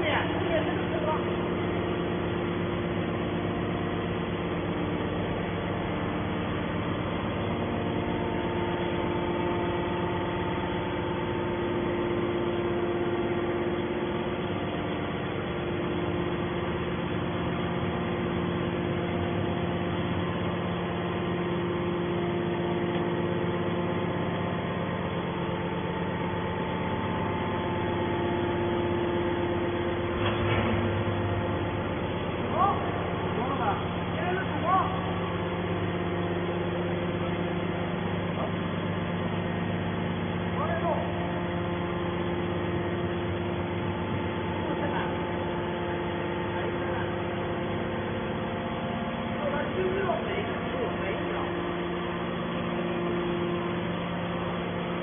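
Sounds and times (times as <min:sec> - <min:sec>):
hydraulic pump motor humming: 0:00.0 - 0:55.0.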